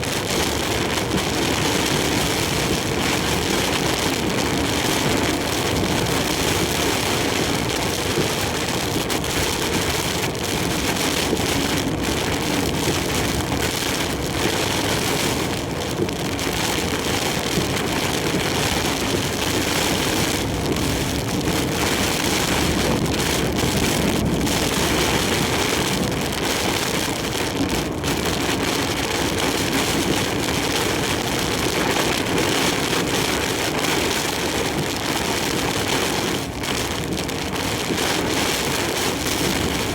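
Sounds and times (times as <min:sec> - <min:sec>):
heavy rain and wind: 0:00.0 - 0:39.9.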